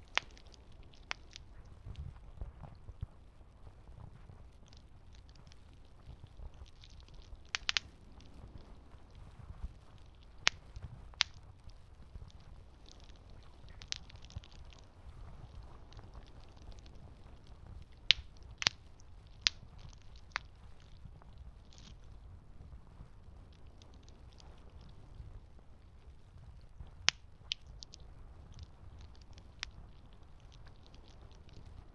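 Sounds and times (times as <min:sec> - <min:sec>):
campfire crackling and popping: 0:00.0 - 0:31.9.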